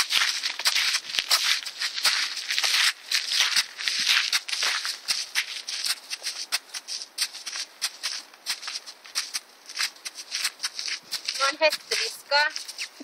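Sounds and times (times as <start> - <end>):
boots crunching on gravel: 0.0 - 13.0
hooves on gravel: 0.0 - 13.0.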